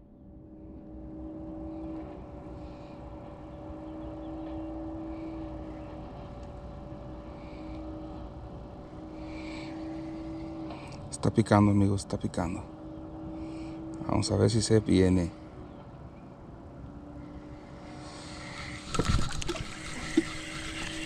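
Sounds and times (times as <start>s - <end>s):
distant motor hum: 0.0s - 21.0s.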